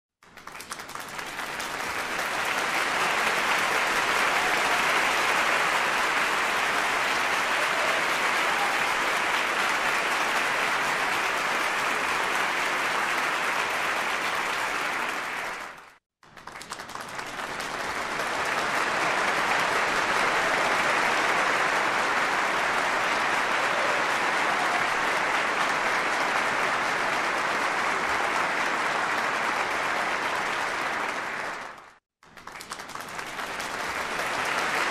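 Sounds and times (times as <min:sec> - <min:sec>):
crowd applause: 0:00.2 - 0:34.9.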